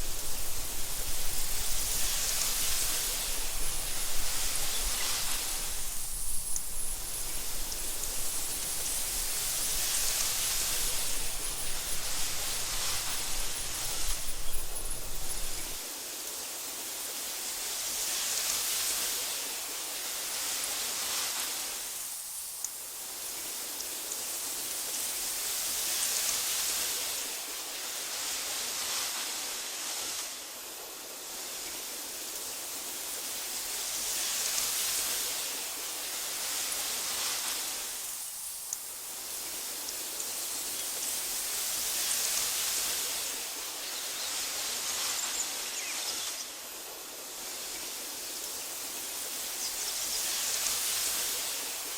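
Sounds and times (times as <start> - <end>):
wind blowing through grass: 0.0 - 51.9.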